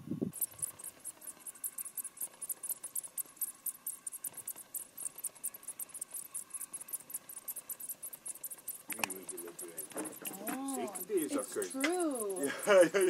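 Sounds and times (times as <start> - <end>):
insect chirping high-pitched pulses: 0.0 - 13.0.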